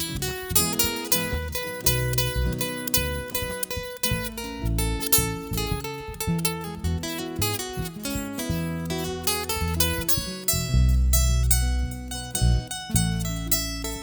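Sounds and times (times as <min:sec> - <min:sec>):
bass guitar notes: 0:00.0 - 0:14.0
picked melody notes: 0:00.0 - 0:14.0
strummed acoustic guitar: 0:00.0 - 0:14.0.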